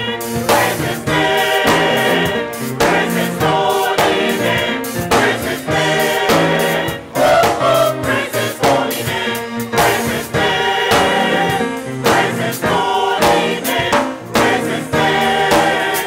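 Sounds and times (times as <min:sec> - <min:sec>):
gospel choir singing: 0:00.0 - 0:16.0
steady beat: 0:00.0 - 0:16.0.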